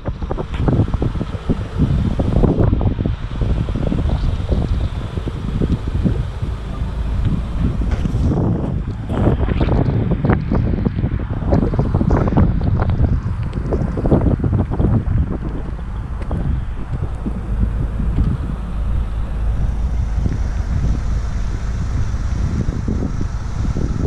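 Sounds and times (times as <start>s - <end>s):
car engine idling: 0.0s - 24.0s
wind buffeting microphone: 0.0s - 24.0s.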